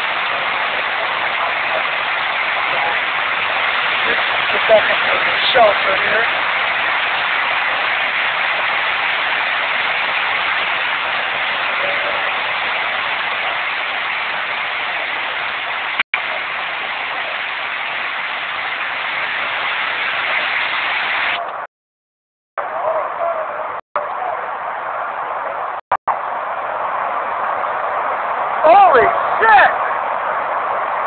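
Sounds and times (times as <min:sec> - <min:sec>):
heavy rain pouring: 0:00.0 - 0:21.7, 0:24.0 - 0:31.0.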